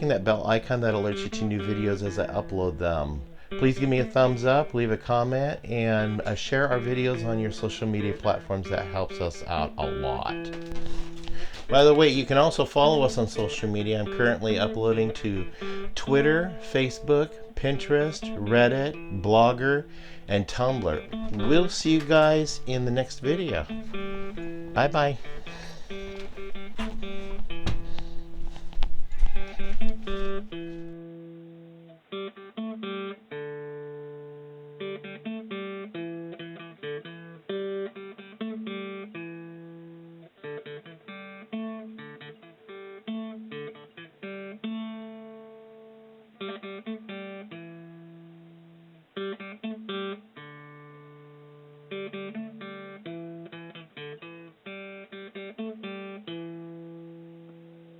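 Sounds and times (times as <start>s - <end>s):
acoustic guitar music: 0.0s - 57.9s.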